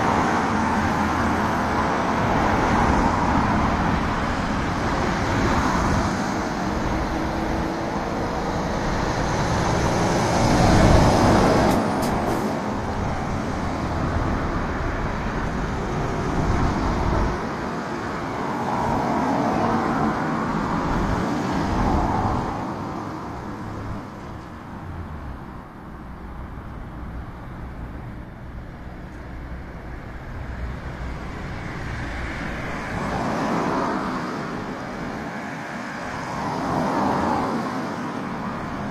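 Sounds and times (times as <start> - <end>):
vehicles passing by: 0.0 - 38.9.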